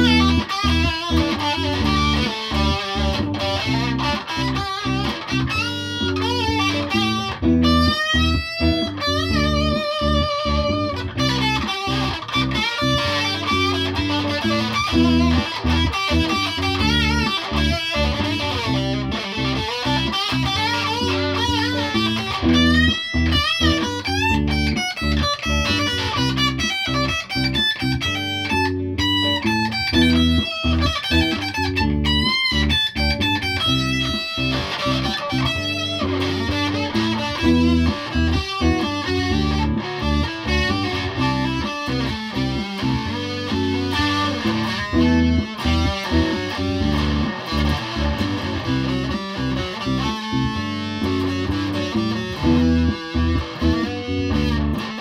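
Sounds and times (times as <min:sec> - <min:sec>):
bass line: 0:00.0 - 0:55.0
electric guitar lead: 0:00.0 - 0:55.0.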